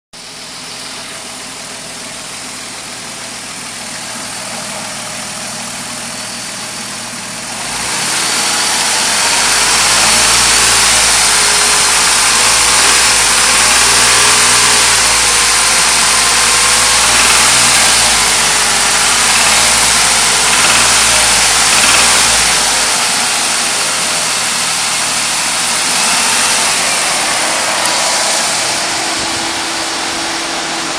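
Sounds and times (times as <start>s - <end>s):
engine knocking: 0.4s - 28.8s
car engine revving: 3.3s - 30.9s.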